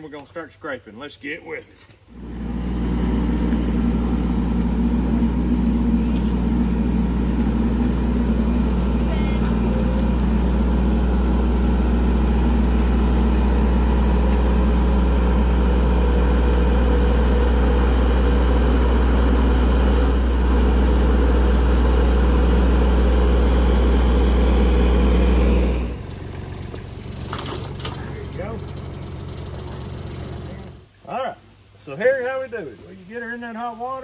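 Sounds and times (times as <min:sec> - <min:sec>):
tractor engine idling: 0:02.1 - 0:31.2.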